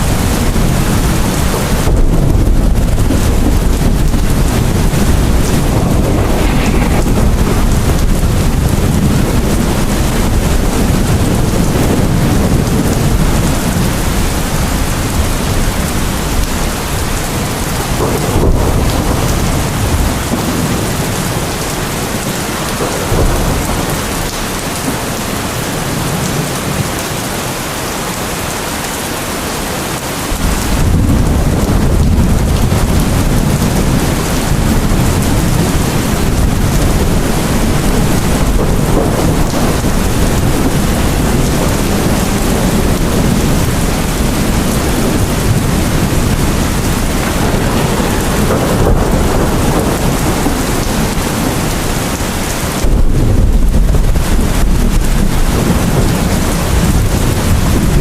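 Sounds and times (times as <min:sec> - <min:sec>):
deep rolling thunder: 0:00.0 - 0:27.1, 0:30.3 - 0:58.0
steady rain: 0:00.0 - 0:58.0.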